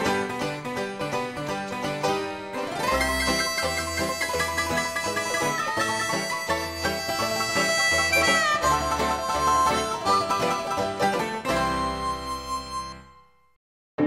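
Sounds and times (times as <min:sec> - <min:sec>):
acoustic string-band music: 0:00.0 - 0:12.9.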